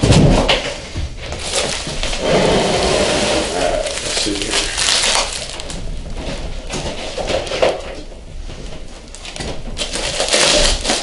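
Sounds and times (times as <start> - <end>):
bubble wrap crinkling: 1.2 - 11.0.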